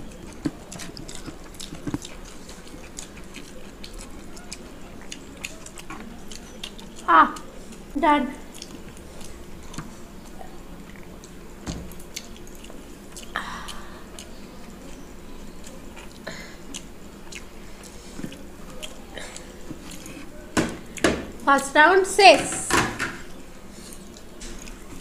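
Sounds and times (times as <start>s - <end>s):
people chewing: 0.0s - 21.5s, 23.2s - 25.0s.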